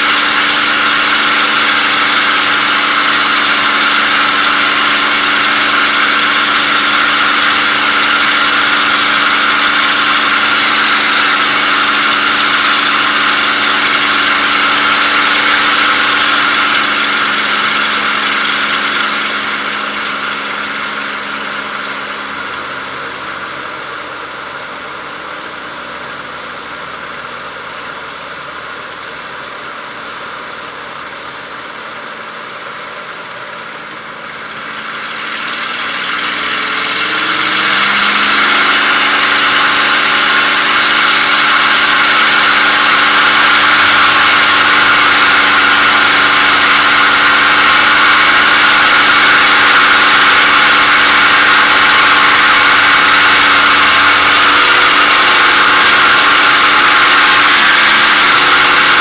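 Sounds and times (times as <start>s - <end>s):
aircraft engine: 0.0s - 59.0s.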